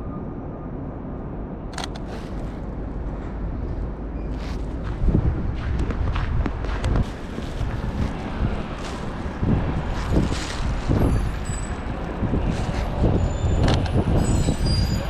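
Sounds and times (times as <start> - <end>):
low rumble of vehicle engines: 0.0 - 15.0.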